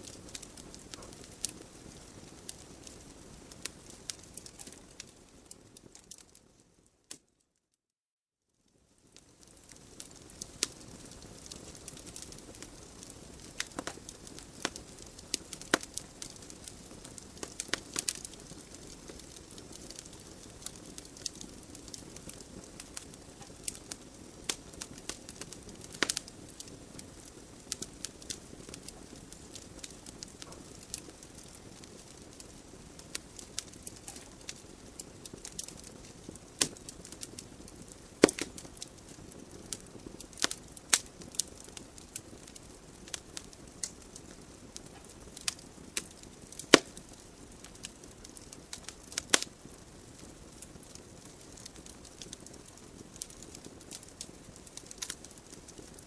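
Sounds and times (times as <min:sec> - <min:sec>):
fire crackling and popping: 0:00.0 - 0:07.4, 0:08.7 - 0:56.0.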